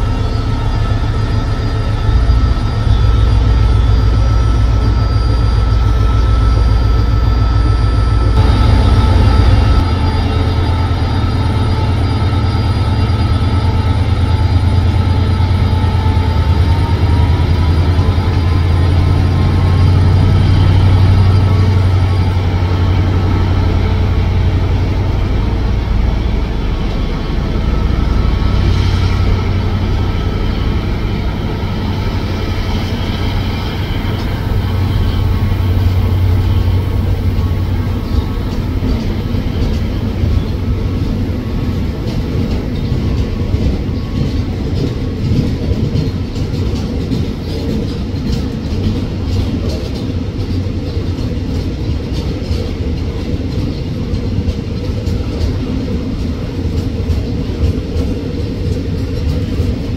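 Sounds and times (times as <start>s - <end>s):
freight wagons rolling on rails: 0.0s - 59.9s
locomotive engine drone: 0.0s - 59.9s.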